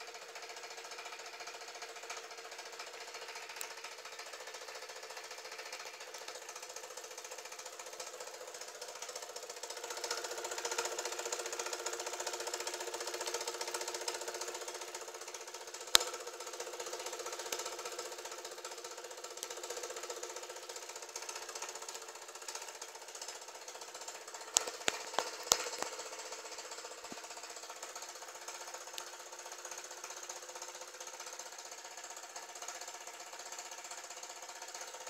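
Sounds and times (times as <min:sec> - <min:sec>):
model engine mechanical chatter: 0:00.0 - 0:35.0.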